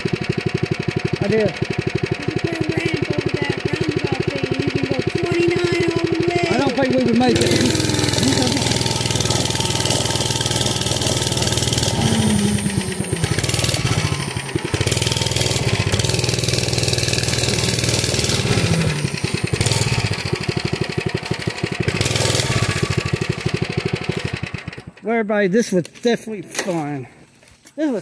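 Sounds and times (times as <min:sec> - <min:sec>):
mini bike engine running: 0:00.0 - 0:25.2.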